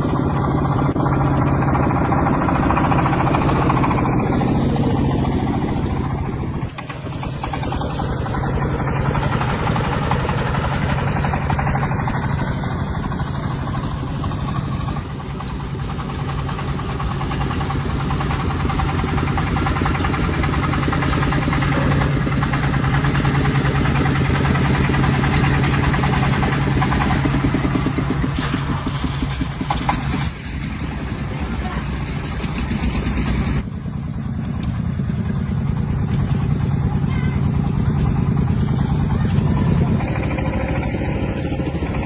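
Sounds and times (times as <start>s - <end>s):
tractor engine chugging: 0.0s - 42.0s.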